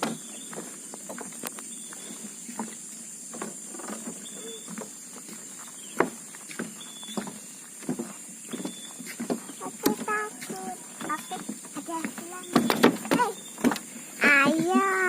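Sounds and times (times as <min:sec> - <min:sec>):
footsteps on wooden bridge: 0:00.0 - 0:15.0
steady high hiss: 0:00.0 - 0:15.0.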